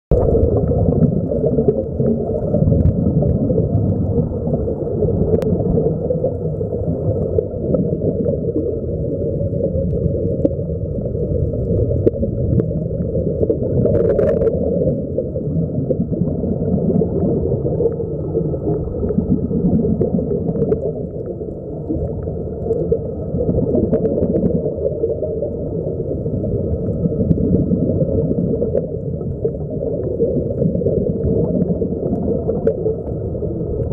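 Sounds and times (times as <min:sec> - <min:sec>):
air bubbles gurgling: 0:00.1 - 0:33.9
muffled underwater rumble: 0:00.1 - 0:33.9.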